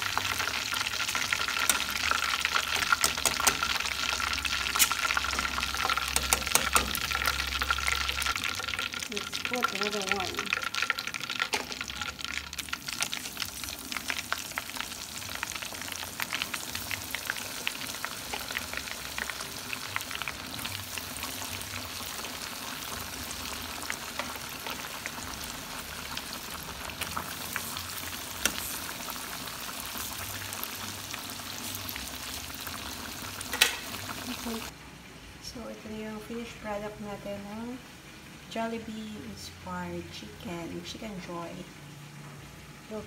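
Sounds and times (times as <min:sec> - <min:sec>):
chicken deep-frying in oil: 0:00.0 - 0:34.8.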